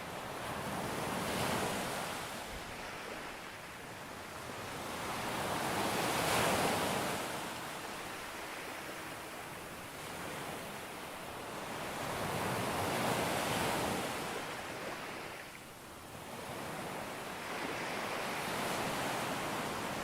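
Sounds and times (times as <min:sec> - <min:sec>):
sea waves breaking on a beach: 0:00.0 - 0:20.0.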